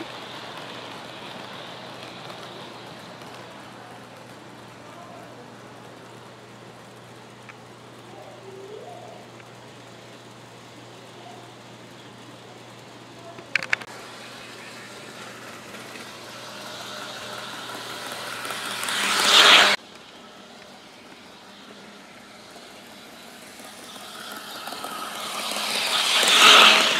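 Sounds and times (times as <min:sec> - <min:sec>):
model train motor and wheels whirring: 0:00.0 - 0:26.9.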